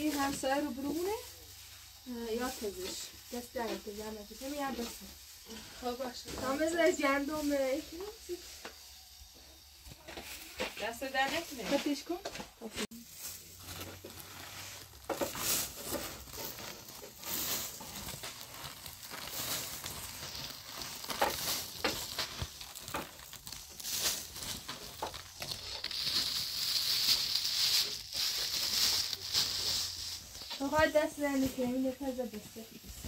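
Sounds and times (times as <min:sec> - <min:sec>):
plastic bag crinkling: 0:00.0 - 0:08.9, 0:12.8 - 0:33.0
grain rustling: 0:00.0 - 0:33.0.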